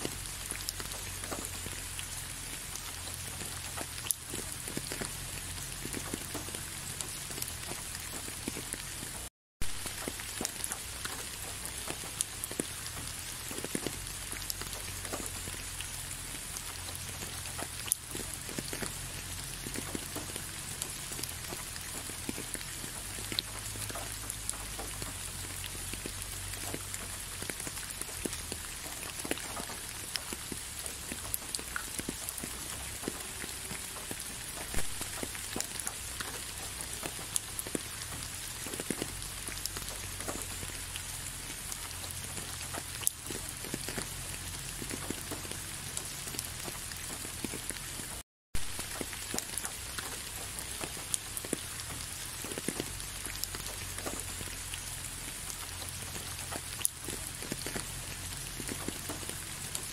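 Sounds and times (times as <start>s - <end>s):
raindrops ticking close by: 0.0s - 59.9s
steady rain hissing: 0.0s - 59.9s.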